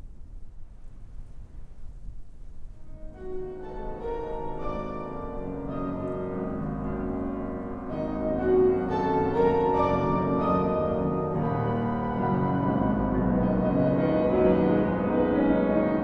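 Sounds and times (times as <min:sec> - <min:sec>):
slow keyboard chords: 0:02.9 - 0:16.0.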